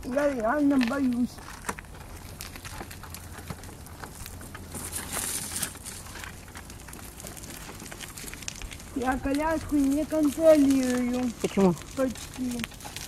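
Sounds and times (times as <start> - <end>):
footsteps on gravel: 0.0 - 13.0
gravel crunching under wheels: 0.0 - 13.0
low steady hum: 0.0 - 13.0.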